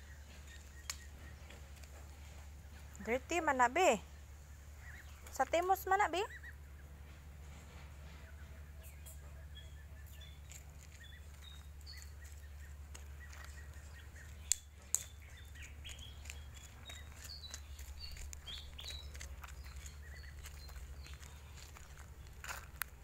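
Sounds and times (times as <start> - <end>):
low steady hum: 0.0 - 23.0
small birds chirping: 0.0 - 23.0.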